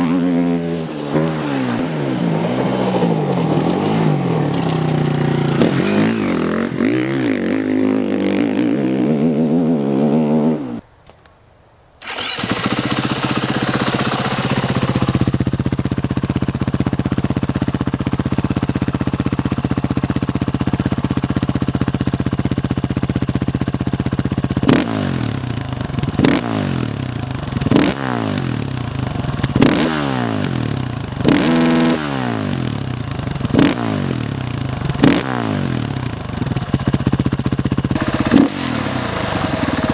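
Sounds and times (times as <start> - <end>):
dirt bike engine idling: 0.0 - 9.6, 12.0 - 39.9
dirt bike engine revving: 0.0 - 10.8, 12.0 - 39.9.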